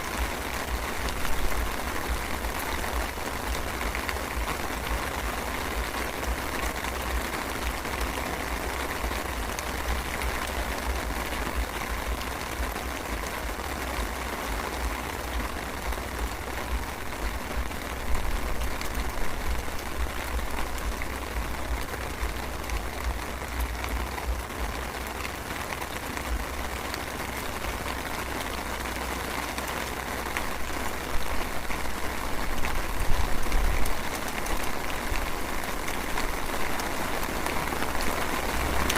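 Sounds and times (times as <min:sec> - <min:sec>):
light drizzle pattering: 0:00.0 - 0:38.9.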